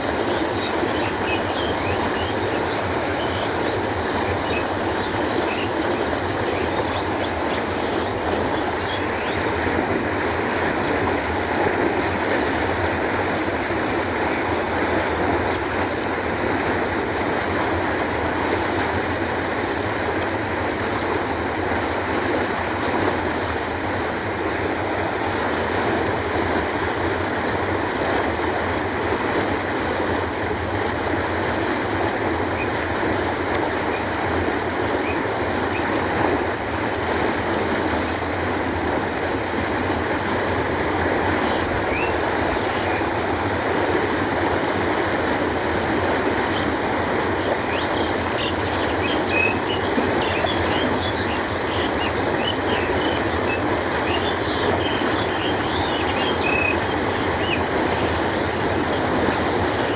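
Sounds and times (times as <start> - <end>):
canal water rushing: 0.0 - 59.9.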